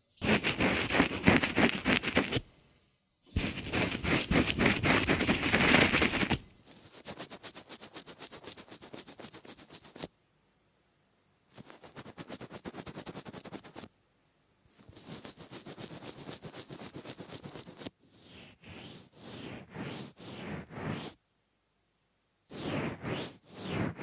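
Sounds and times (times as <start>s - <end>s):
rapid scratching strokes: 0.1s - 2.4s, 3.3s - 10.1s, 11.5s - 13.9s, 14.7s - 21.2s, 22.5s - 24.0s.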